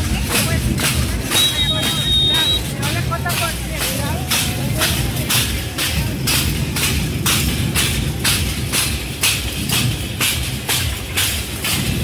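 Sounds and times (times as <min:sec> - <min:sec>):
percussion music with steady beat: 0:00.0 - 0:12.0.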